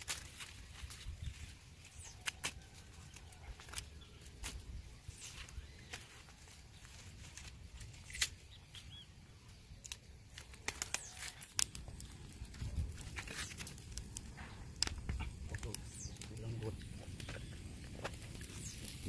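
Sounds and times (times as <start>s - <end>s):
palm leaves tearing: 0.0s - 9.0s, 9.7s - 19.0s
leaves rustling: 0.0s - 19.0s.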